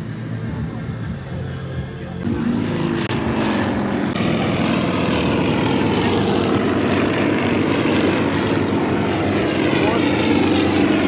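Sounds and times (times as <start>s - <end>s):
propeller airplane engine: 0.0s - 11.0s.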